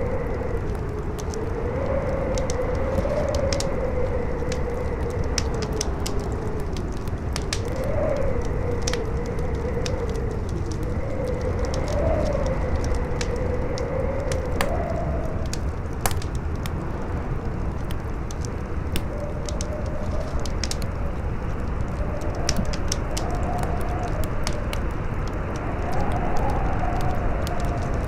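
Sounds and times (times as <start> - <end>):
fire crackling and popping: 0.0 - 28.0
wind howling: 0.0 - 28.0.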